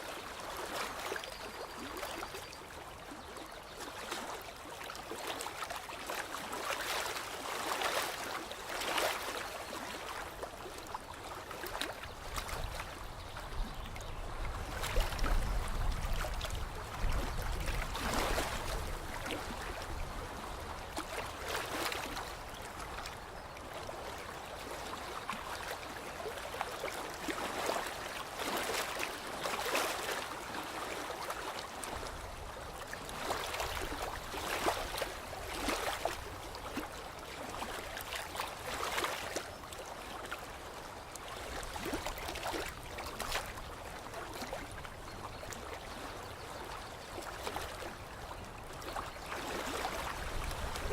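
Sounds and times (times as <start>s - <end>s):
water lapping at shore: 0.0s - 50.9s.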